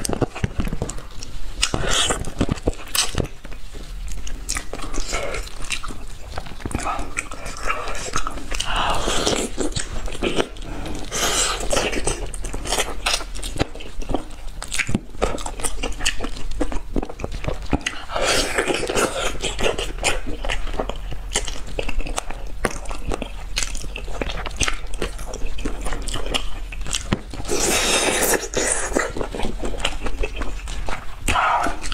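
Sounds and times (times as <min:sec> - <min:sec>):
chewing and biting meat: 0:00.0 - 0:31.9.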